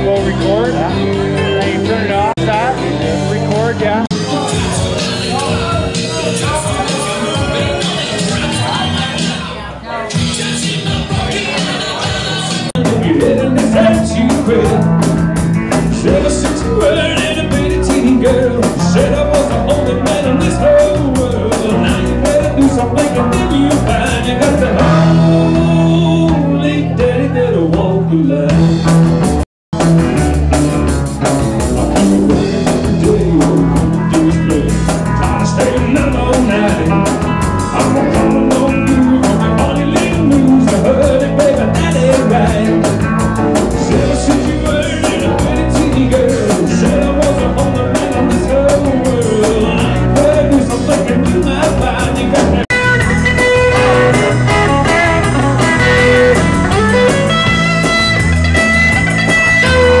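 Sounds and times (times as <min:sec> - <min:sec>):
drum kit: 0:00.0 - 1:00.0
rock band with electric guitars: 0:00.0 - 1:00.0.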